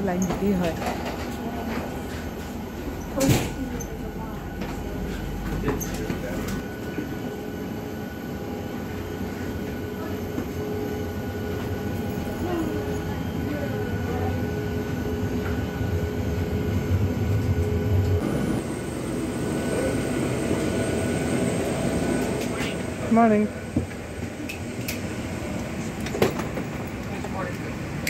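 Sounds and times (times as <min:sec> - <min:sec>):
machinery whining tones: 0:00.0 - 0:26.1
machinery hum: 0:00.0 - 0:28.0.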